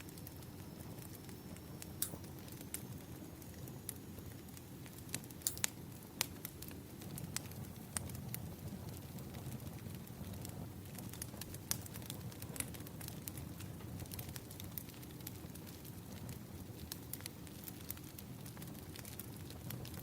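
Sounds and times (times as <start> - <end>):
firewood crackling: 0.0 - 20.0.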